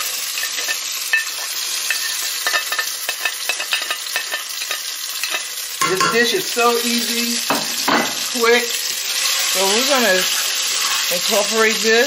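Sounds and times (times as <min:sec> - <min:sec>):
onion sizzling in oil: 0:00.0 - 0:12.0.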